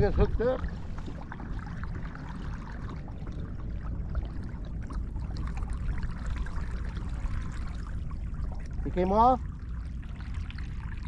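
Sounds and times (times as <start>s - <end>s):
steady low rumble: 0.0s - 11.0s
water lapping against hull: 0.0s - 11.0s.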